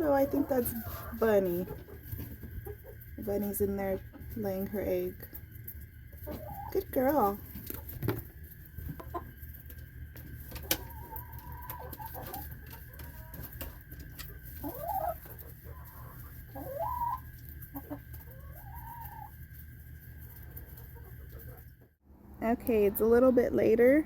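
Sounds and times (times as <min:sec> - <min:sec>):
hens clucking and calling: 0:00.0 - 0:04.6, 0:05.3 - 0:21.8
steady low hum: 0:00.0 - 0:24.0.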